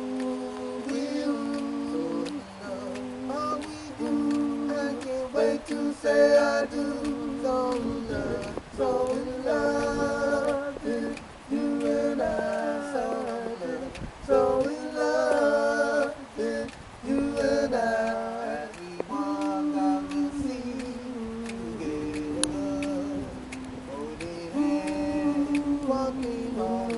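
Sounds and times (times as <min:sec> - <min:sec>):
male trio singing a cappella: 0:00.0 - 0:26.9.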